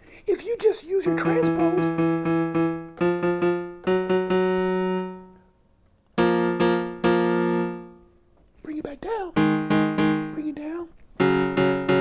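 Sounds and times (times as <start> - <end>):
piano notes on keyboard: 1.0 - 8.5, 9.2 - 12.0.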